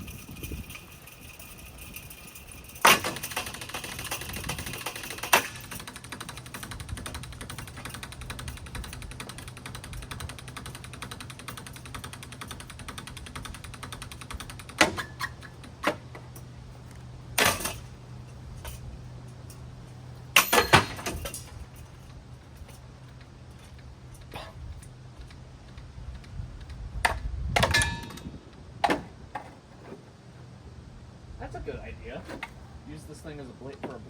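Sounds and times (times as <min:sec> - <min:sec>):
ceiling fan humming and clattering: 0:00.0 - 0:34.0.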